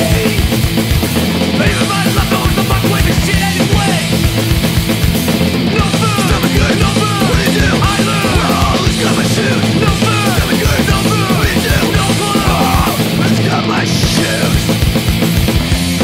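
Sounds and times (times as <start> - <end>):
punk rock band playing: 0.0 - 16.0.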